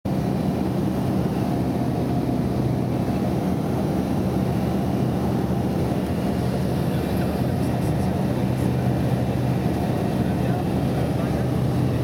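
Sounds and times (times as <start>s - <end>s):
light airplane engine drone: 0.1s - 12.0s.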